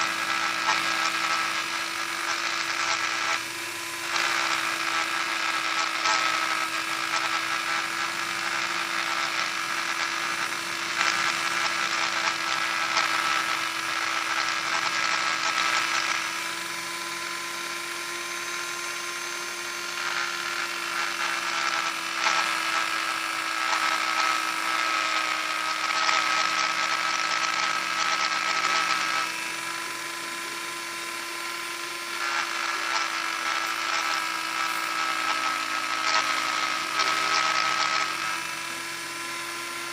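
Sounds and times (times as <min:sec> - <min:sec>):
rotary tool whining: 0:00.0 - 0:39.9
scratchy grinding: 0:00.0 - 0:39.9.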